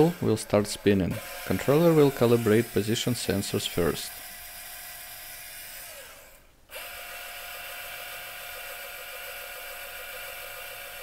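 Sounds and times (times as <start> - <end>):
electric motor whine: 0.0 - 11.0.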